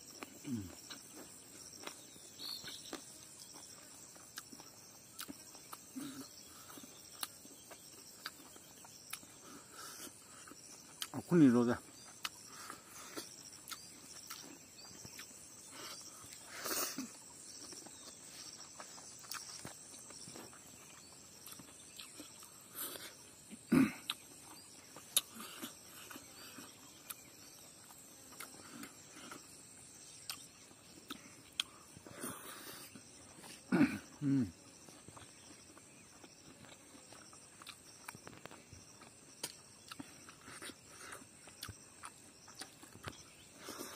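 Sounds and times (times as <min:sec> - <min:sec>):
man chewing food: 0:00.0 - 0:11.2, 0:11.9 - 0:43.9
high insect drone: 0:00.0 - 0:43.9.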